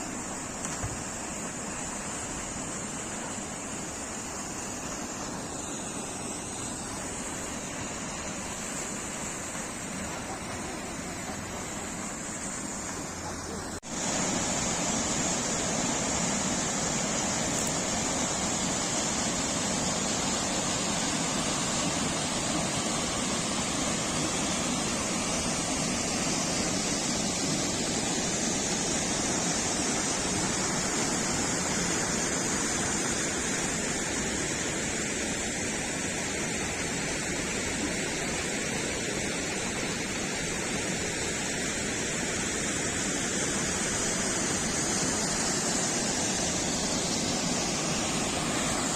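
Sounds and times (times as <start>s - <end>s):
falling water rushing: 0.0s - 48.9s.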